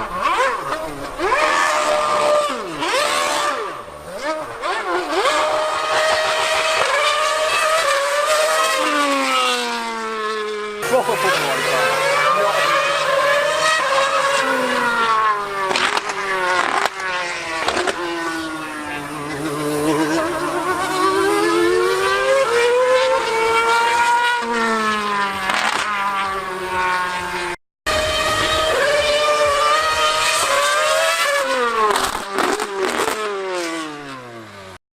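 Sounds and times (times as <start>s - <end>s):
high-revving racing engine: 0.0s - 34.8s.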